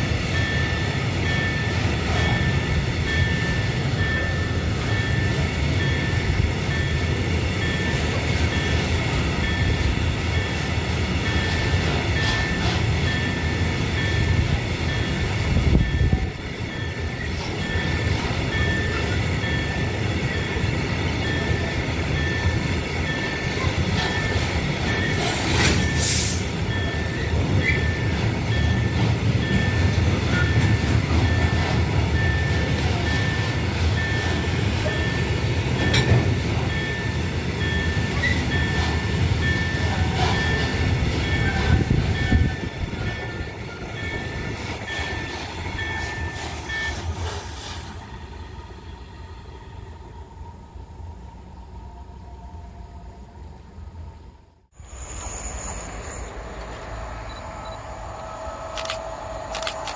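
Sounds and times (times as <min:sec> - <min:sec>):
rail clicks: 0:00.0 - 0:48.7, 0:55.6 - 0:59.9
train wheels rumbling on rails: 0:00.0 - 0:52.2, 0:54.0 - 0:59.9.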